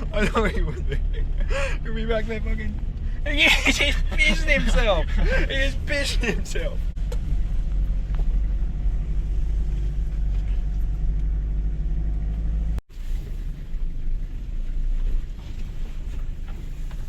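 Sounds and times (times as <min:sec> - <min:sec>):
vehicle rumbling on dirt track: 0:00.0 - 0:17.0.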